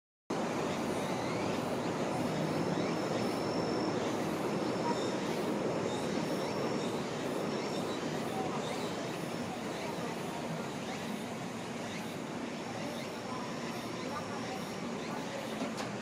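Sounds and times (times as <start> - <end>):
outdoor background noise: 0.3 - 16.0.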